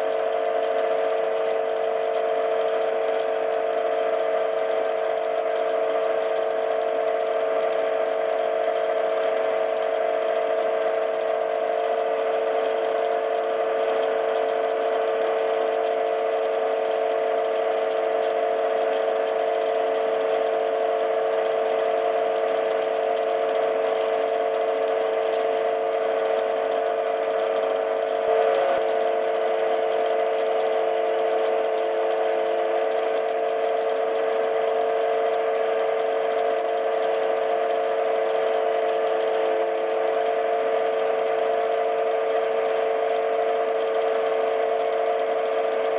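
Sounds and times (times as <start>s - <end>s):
lathe machine hum: 0.0s - 45.9s.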